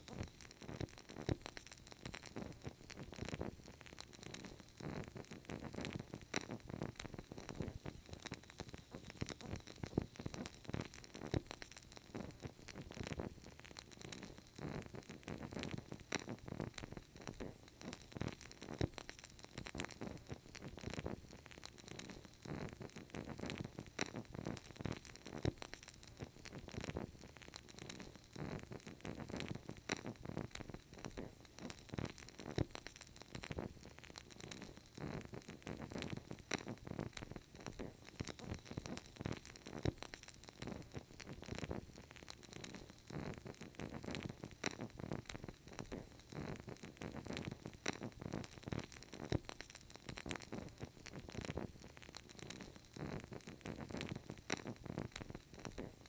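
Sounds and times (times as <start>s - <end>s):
candle crackling and popping: 0.0s - 56.0s.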